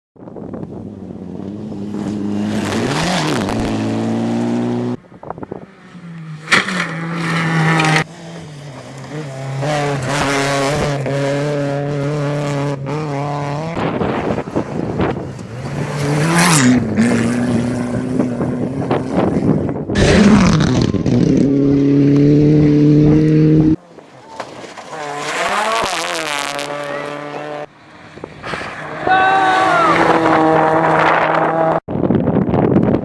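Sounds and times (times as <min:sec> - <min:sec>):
rally car engines at high revs: 0:00.6 - 0:31.8.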